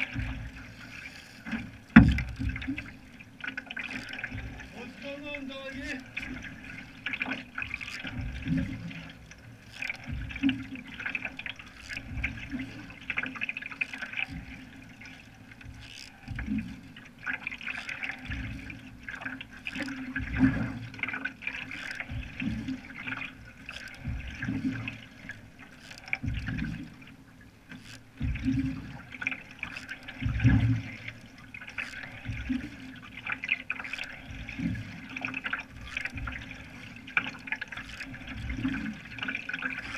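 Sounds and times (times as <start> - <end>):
paddle swishing through water: 0.0 - 39.9
water trickling along canoe: 0.0 - 39.9.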